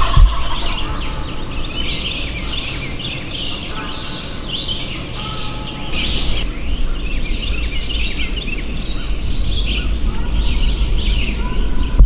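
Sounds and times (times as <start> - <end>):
low rumble: 0.0 - 12.0
songbirds chirping: 0.0 - 12.0.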